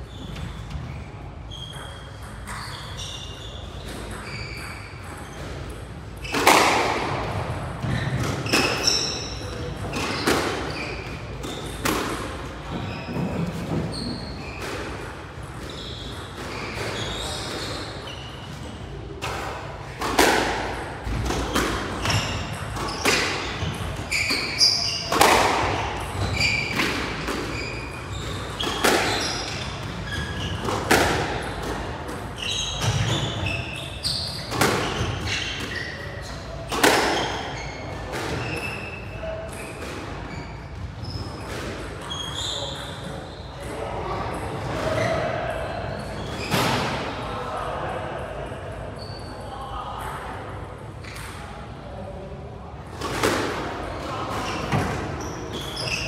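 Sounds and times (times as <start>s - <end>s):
shoes squeaking on court floor: 0.0s - 47.0s, 49.0s - 50.2s, 53.9s - 56.0s.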